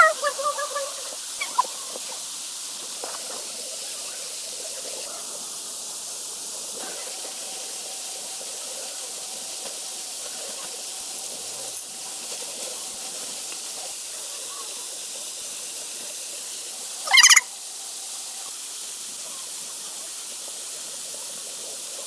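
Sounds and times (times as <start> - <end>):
waterfall rushing hiss: 0.0 - 22.0.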